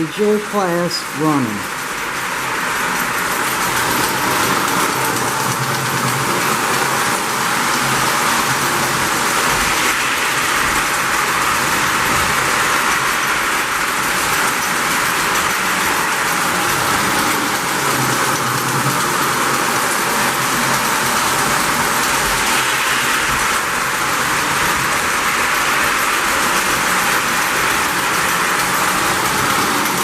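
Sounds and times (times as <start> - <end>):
toy train rumbling on track: 0.0 - 30.0.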